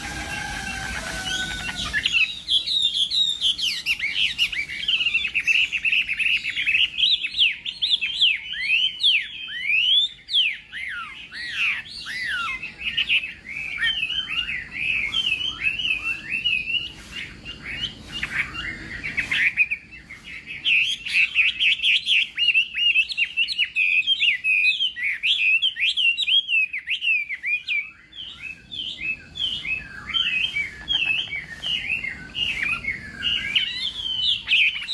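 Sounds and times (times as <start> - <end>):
songbird singing whistled phrases: 0.0 - 34.9.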